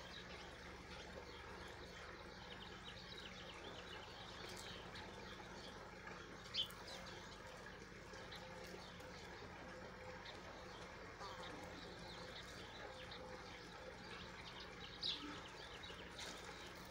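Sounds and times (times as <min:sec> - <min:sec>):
small birds chirping: 0:00.0 - 0:16.9
steady low background hum: 0:00.0 - 0:16.9.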